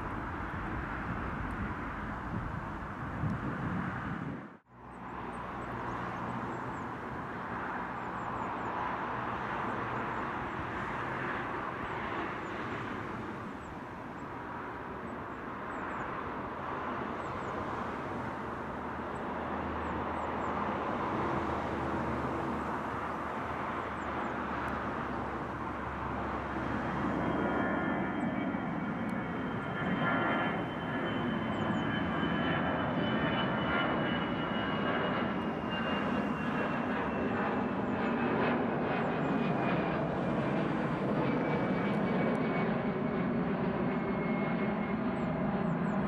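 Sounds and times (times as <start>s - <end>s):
jet engines at takeoff: 0.0s - 46.0s.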